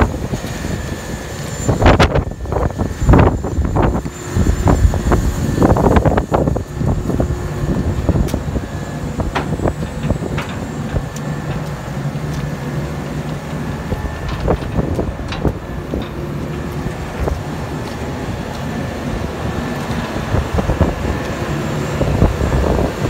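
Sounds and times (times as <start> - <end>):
diesel engine idling: 3.4 - 23.0.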